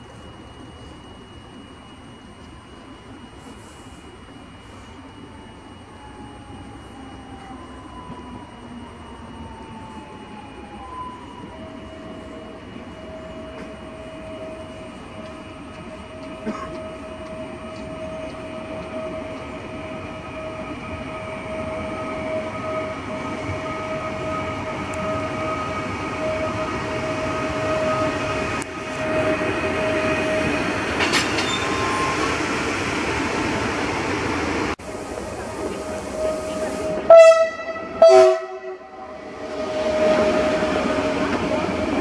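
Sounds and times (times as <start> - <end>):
electric train passing: 0.0 - 42.0.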